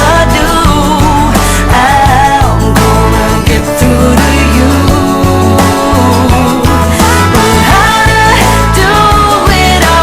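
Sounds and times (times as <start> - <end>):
song with sung melody and beat: 0.0 - 10.0.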